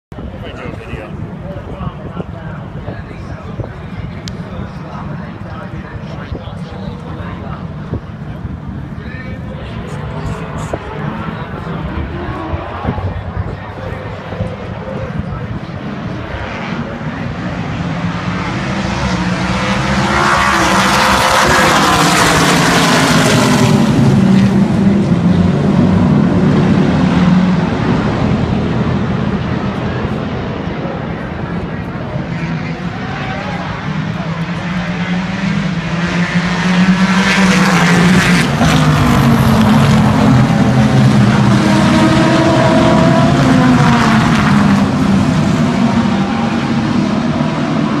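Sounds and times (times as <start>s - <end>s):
race cars passing at speed: 0.2s - 48.0s.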